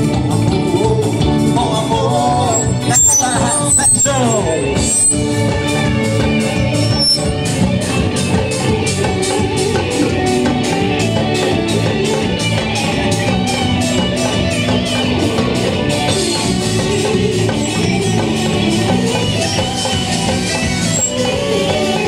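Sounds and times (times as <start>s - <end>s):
drums: 0.0s - 22.0s
electric guitar: 0.0s - 22.0s
high percussion ticks: 2.4s - 22.0s.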